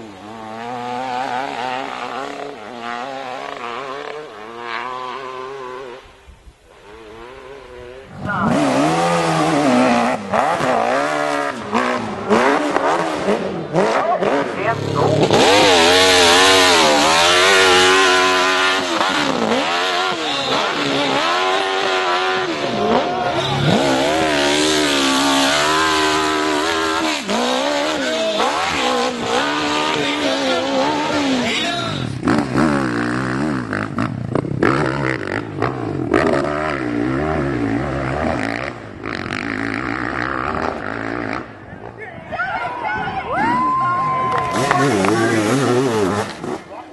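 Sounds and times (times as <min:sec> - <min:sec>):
dirt bike engine revving: 0:00.0 - 0:42.0, 0:43.4 - 0:46.9.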